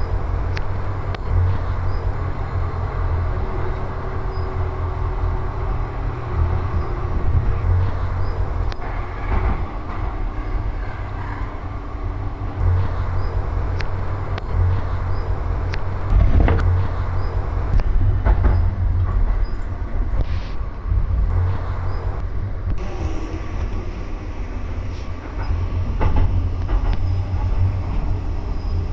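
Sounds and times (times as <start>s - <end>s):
train rumbling: 0.0s - 28.9s.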